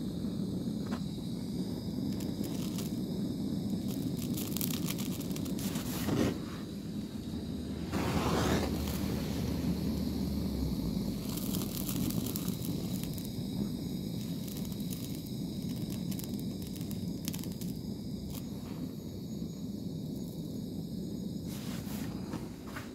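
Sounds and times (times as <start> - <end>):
blowtorch flame rushing: 0.0 - 22.9
melting wax crackling: 0.0 - 22.9.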